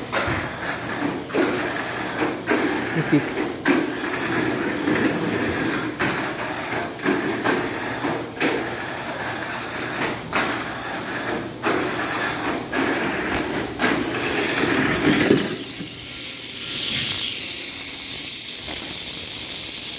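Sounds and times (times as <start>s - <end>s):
toy car clacking on track: 0.0s - 19.9s
toy car motor rattling whir: 0.0s - 19.9s.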